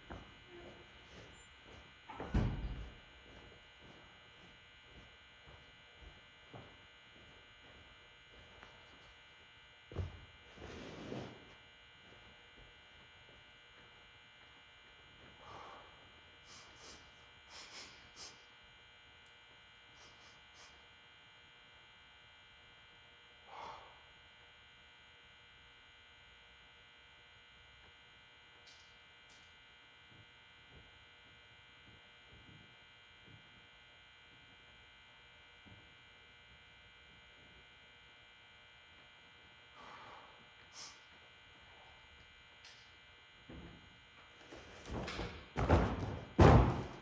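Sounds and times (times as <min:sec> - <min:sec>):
electrical hum and buzz: 0:00.0 - 0:47.0.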